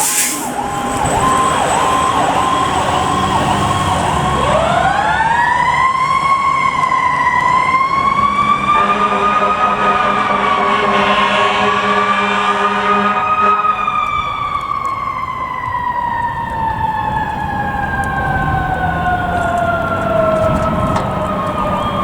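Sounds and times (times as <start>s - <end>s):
fire truck siren wailing: 0.0s - 22.0s
truck engine hum: 0.0s - 22.0s.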